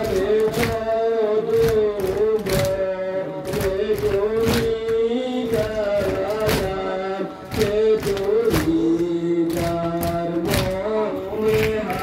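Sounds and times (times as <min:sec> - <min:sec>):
hands slapping chests: 0:00.0 - 0:06.8, 0:07.5 - 0:12.0
men chanting in unison: 0:00.0 - 0:12.0.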